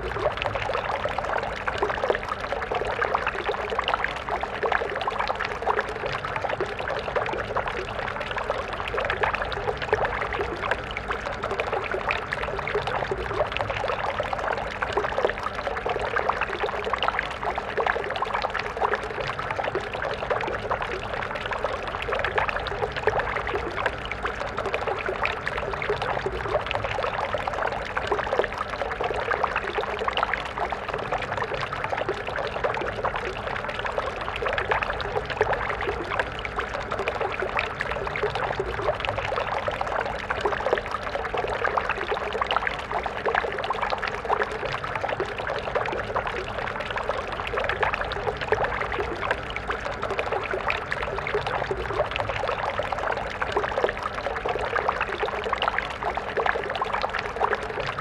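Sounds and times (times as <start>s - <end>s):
stream of water flowing: 0.0s - 58.0s.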